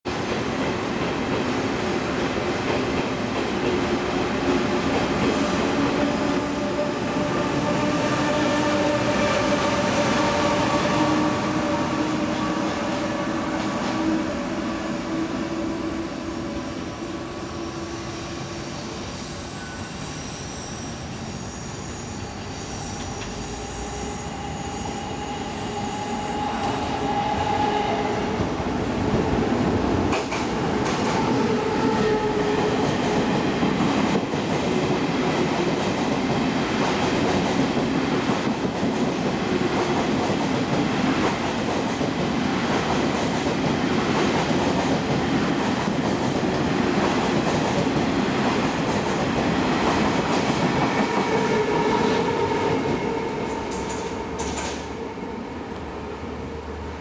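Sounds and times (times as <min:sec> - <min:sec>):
express train running past: 0:00.1 - 0:57.0.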